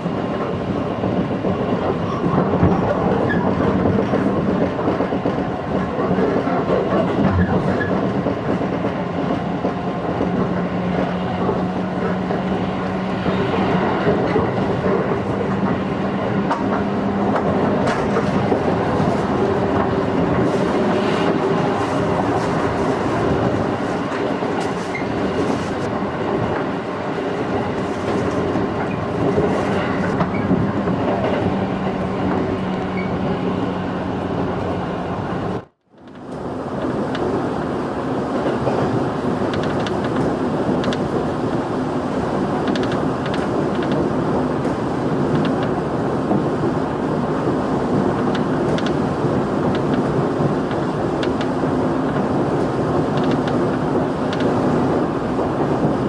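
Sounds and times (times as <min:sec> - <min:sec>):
train motor and gear hum: 0:00.0 - 0:56.0
train wheels rumbling on rail: 0:00.0 - 0:56.0.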